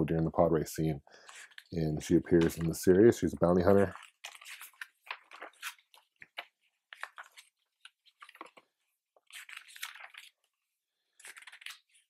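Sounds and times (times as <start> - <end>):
book pages turning: 1.2 - 12.0.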